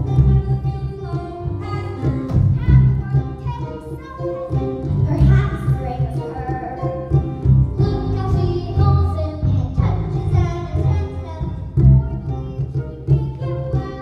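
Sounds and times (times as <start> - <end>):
instrumental accompaniment with bass: 0.0 - 14.0.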